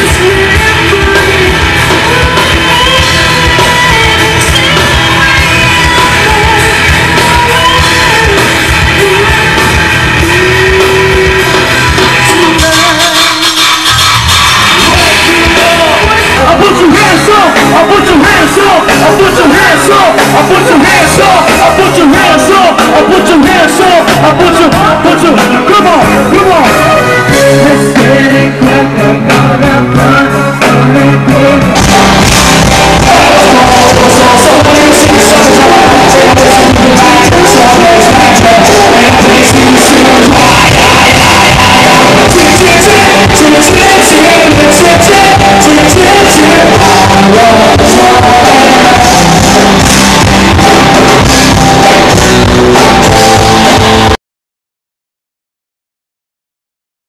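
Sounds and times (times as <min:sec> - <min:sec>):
steady drum beat: 0:00.0 - 0:28.4, 0:30.7 - 0:54.2
band music with sung vocal: 0:00.0 - 0:54.2.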